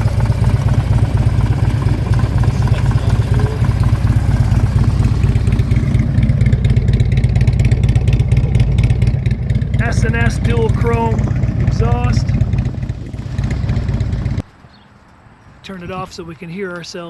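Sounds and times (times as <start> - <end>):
motorcycle engine idling: 0.0 - 14.5.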